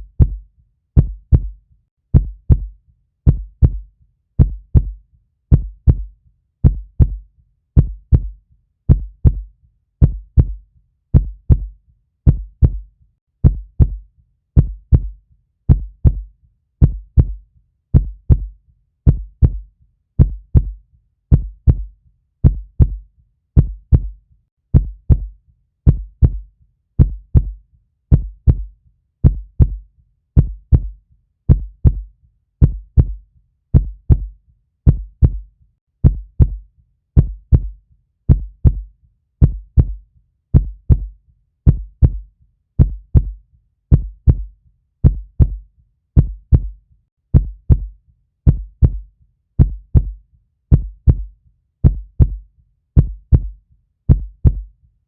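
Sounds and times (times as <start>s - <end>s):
heartbeat thumps: 0.0s - 0.4s, 1.0s - 7.2s, 7.8s - 14.0s, 14.6s - 23.0s, 23.6s - 29.8s, 30.4s - 36.6s, 37.2s - 45.6s, 46.2s - 52.4s, 53.0s - 54.7s.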